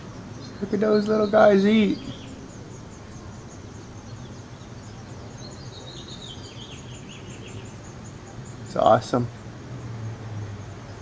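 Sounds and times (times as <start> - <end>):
lower chirps stepping down: 0.0 - 9.5
nestlings cheeping: 0.0 - 9.5
steady low hum: 0.0 - 11.0.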